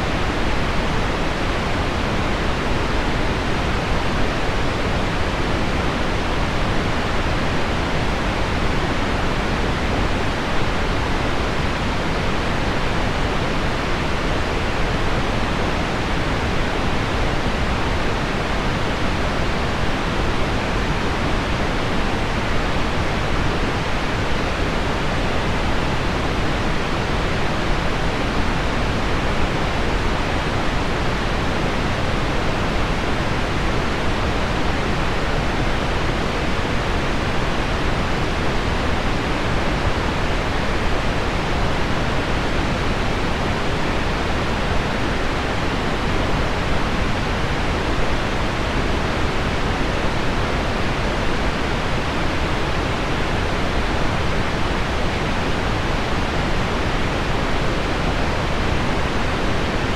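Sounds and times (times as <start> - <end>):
pink noise: 0.0 - 59.9.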